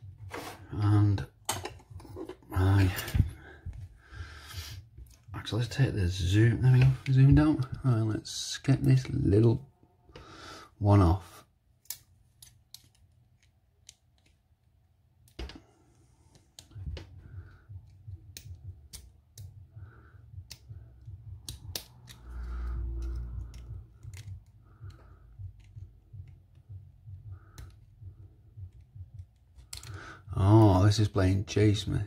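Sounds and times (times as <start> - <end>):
low rumble of hands handling: 0.0 - 8.3, 11.8 - 31.4.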